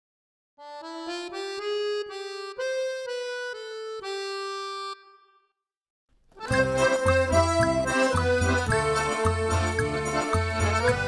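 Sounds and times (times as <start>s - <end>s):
accordion melody jingle: 0.6s - 5.6s, 6.4s - 11.0s.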